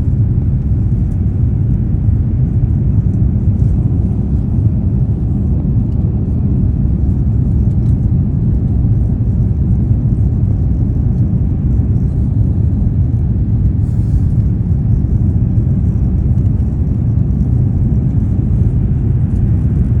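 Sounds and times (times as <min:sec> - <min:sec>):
jet engines rumbling on takeoff: 0:00.0 - 0:20.0.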